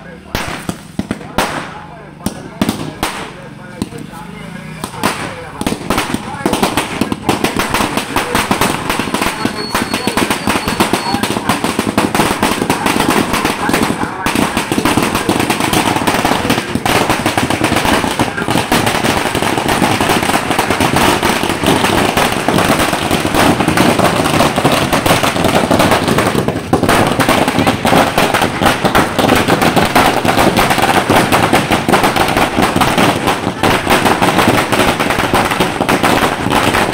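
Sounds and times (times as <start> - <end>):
firecrackers banging: 0.0 - 36.9.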